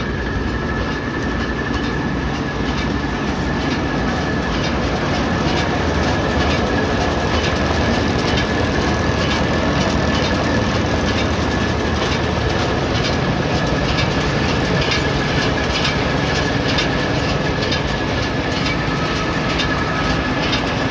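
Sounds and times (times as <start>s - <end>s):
baler mechanical clatter: 0.0s - 20.9s
high mechanical whine: 0.0s - 20.9s
tractor engine running: 0.0s - 20.9s.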